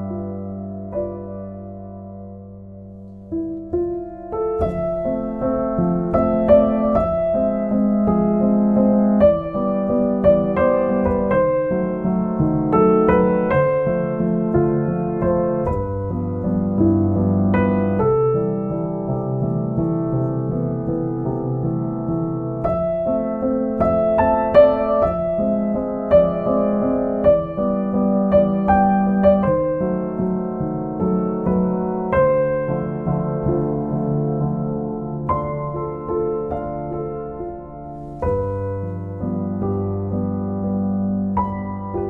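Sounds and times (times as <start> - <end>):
gentle piano music: 0.0 - 42.0.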